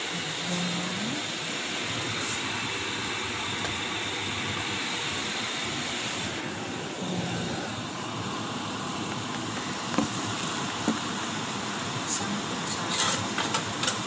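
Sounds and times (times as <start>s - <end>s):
extractor fan rushing: 0.0s - 14.0s.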